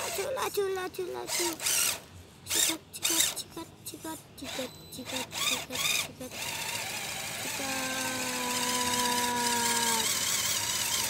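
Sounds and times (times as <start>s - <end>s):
rc truck motor whining: 0.0s - 0.5s, 1.2s - 3.6s, 4.4s - 11.0s.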